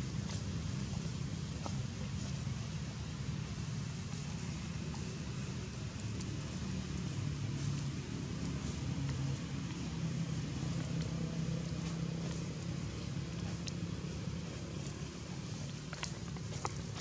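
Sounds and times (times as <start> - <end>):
vehicle engine low hum: 0.0 - 17.0.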